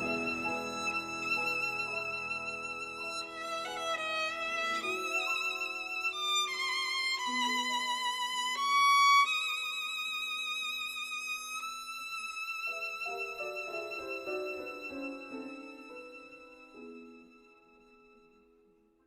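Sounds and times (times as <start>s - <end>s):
violin long notes with vibrato: 0.0s - 18.4s.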